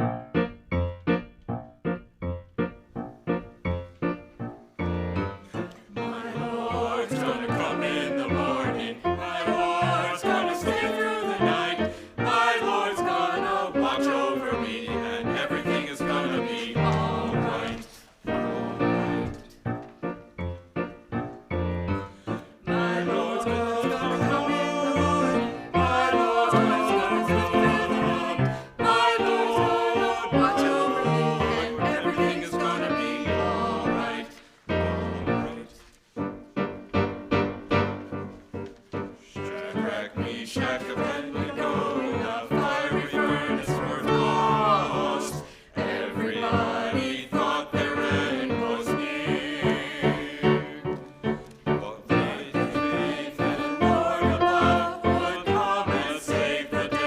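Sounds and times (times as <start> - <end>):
piano accompaniment: 0.0 - 57.0
choir singing: 5.3 - 19.5, 21.8 - 57.0.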